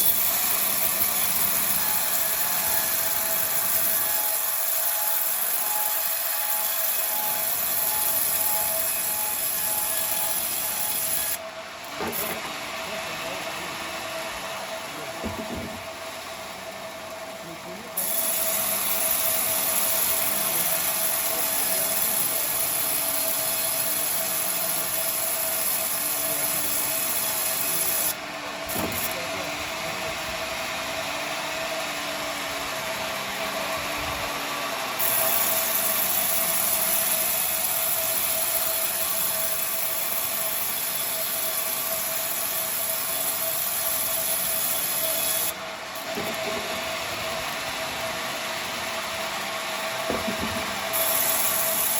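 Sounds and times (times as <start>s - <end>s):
bandsaw cutting wood: 0.0s - 16.0s, 17.7s - 48.8s, 49.8s - 51.9s.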